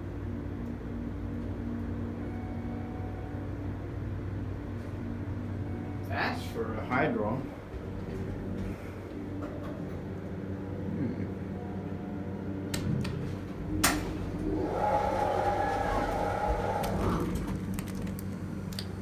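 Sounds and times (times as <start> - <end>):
elevator fan hum: 0.0 - 19.0.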